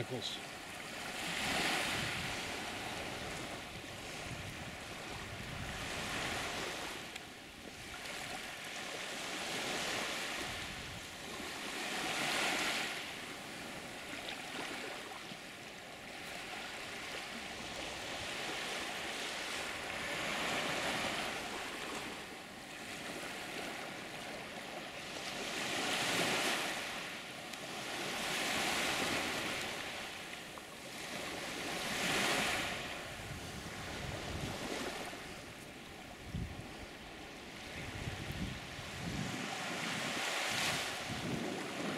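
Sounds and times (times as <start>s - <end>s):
waves washing onto sandy beach: 0.0s - 41.9s.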